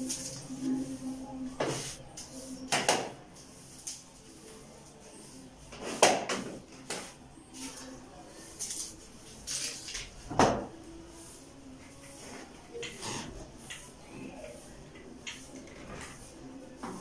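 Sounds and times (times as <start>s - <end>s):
broom bristles swishing on tiles: 0.0s - 10.2s, 11.0s - 17.0s.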